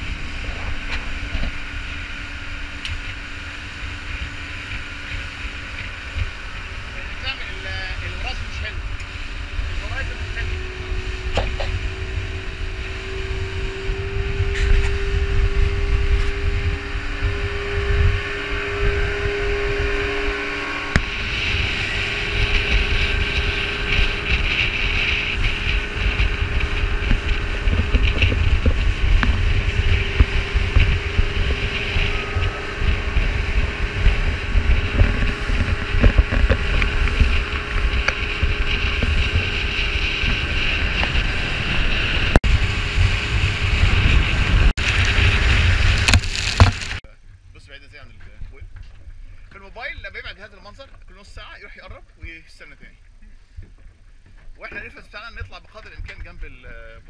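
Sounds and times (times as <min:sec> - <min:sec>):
water rushing: 0:00.0 - 0:47.0
wind buffeting microphone: 0:00.0 - 0:47.5
boat engine hum: 0:00.0 - 0:57.0.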